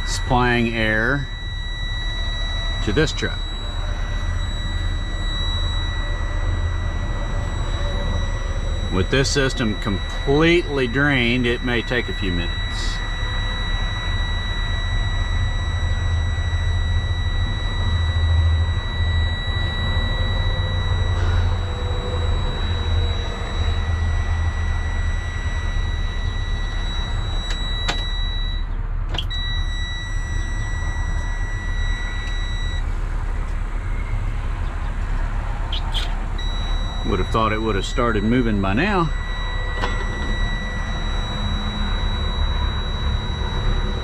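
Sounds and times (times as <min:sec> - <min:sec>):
warning buzzer high tone: 0:00.0 - 0:44.0.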